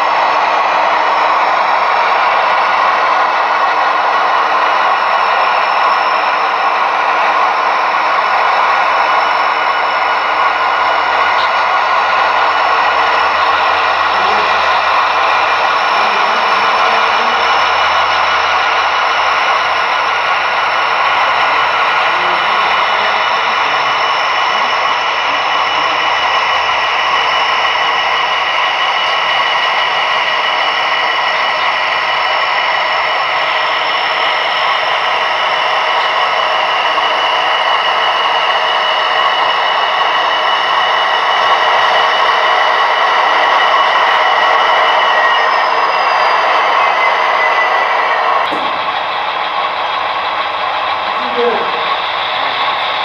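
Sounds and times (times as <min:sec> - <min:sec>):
model locomotives running: 0:00.0 - 0:53.0.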